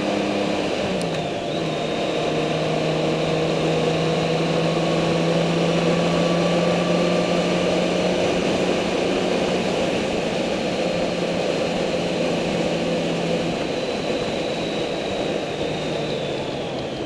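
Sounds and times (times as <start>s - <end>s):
road noise: 0.0s - 17.0s
vehicle engine running: 0.0s - 17.0s.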